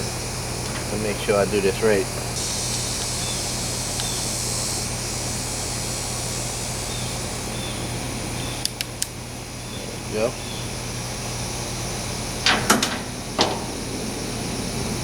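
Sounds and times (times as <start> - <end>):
background hum with hiss: 0.0 - 15.0.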